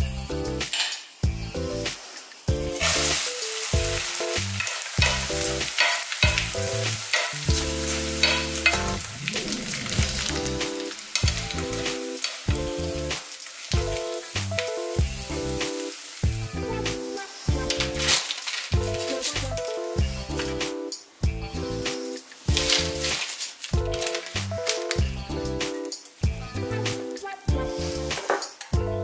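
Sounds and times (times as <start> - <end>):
utensils clicking against a pan: 0.6 - 1.2, 2.4 - 16.3, 16.9 - 20.7, 21.7 - 26.3, 27.9 - 28.8
fish sizzling in hot oil: 0.6 - 28.8.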